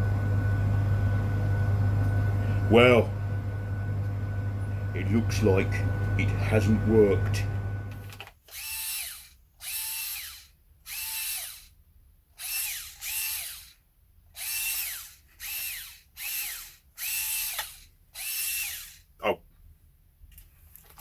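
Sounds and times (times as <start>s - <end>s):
power drill motor whine: 0.0s - 11.8s, 12.4s - 13.8s, 14.4s - 19.1s.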